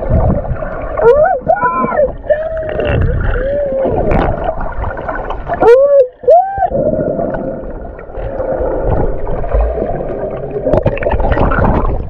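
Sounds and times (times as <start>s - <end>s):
underwater gurgling and sloshing: 0.0s - 12.0s.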